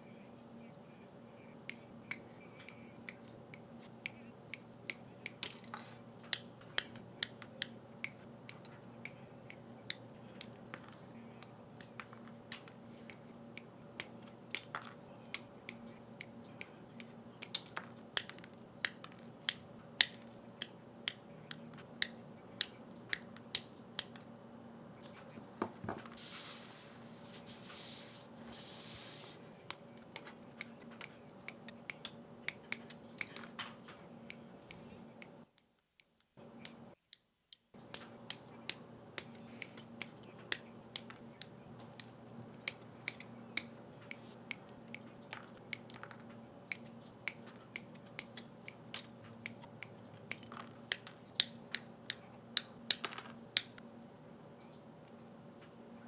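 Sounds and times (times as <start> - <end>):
plastic clicks and snaps: 1.7 - 24.3, 29.7 - 55.8.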